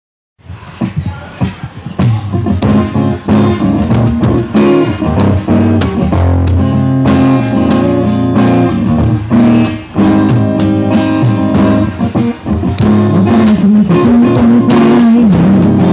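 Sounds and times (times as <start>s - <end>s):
bass guitar: 0.4s - 15.9s
guitar: 0.4s - 15.9s
drum kit struck with sticks: 0.7s - 15.9s.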